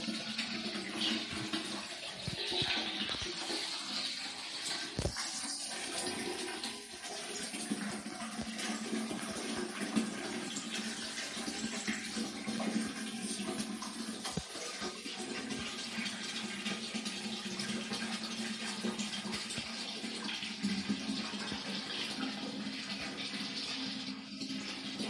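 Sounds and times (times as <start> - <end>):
water running from a tap: 0.0 - 25.0.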